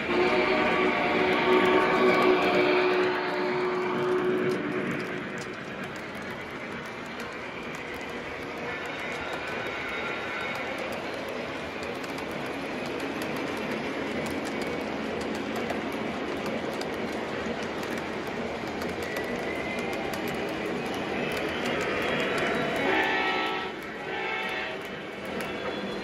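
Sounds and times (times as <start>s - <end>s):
train rumbling on track: 0.0s - 26.0s
faint wheel clicking: 3.7s - 26.0s.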